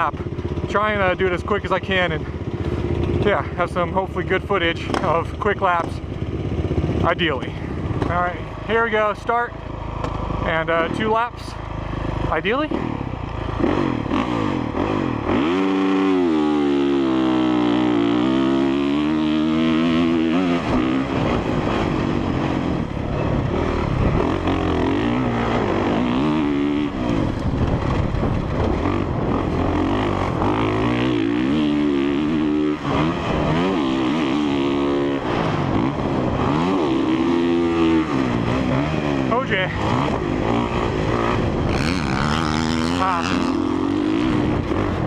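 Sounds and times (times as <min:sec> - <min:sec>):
dirt bike engine accelerating: 0:00.0 - 0:45.0.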